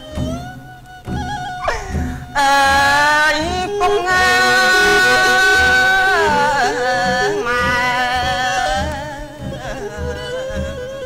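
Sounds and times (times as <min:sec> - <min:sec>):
bowed two-string fiddle: 0:00.0 - 0:11.0
frame drum beats: 0:00.0 - 0:11.0
person singing held wavering notes: 0:01.6 - 0:11.0.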